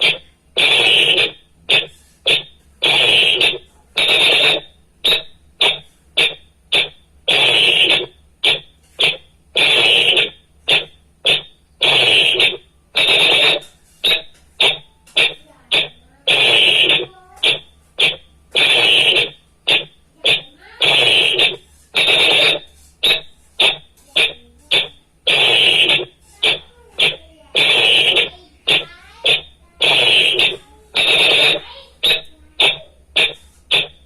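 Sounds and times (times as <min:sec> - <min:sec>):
whistle blasts: 0:00.0 - 0:34.0.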